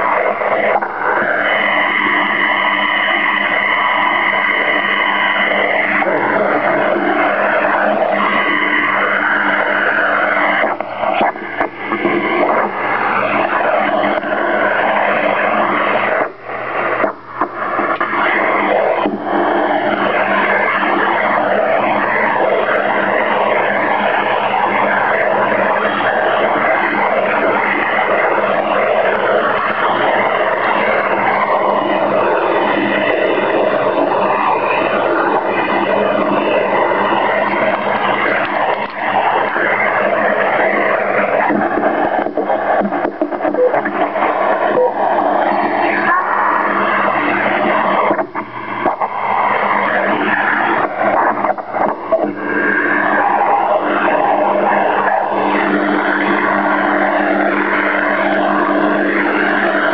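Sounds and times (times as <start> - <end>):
radio interference noise: 0.0 - 59.9.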